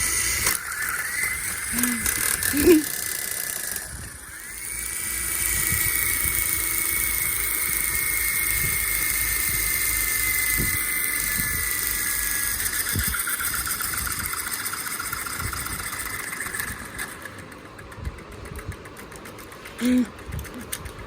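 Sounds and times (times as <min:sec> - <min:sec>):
motor whining: 0:00.0 - 0:18.6.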